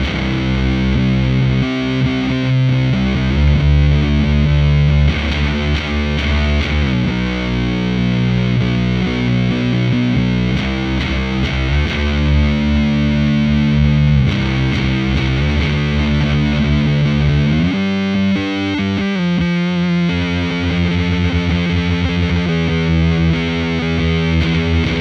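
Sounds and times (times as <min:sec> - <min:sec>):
distorted electric guitar chords: 0:00.0 - 0:25.0.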